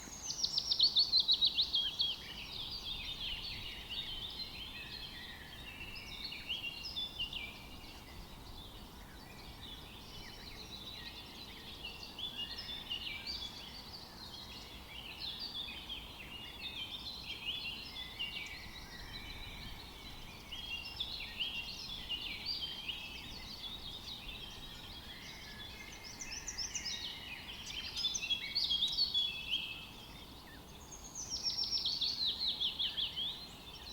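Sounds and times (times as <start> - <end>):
songbirds singing and calling: 0.0 - 33.9.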